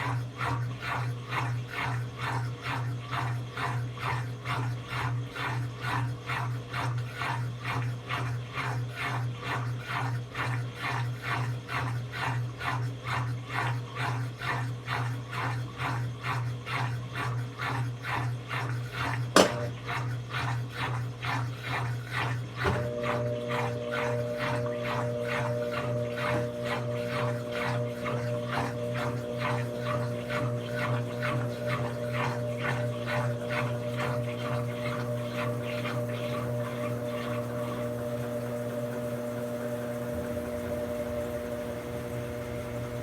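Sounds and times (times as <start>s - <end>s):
washing machine running: 0.0s - 43.0s.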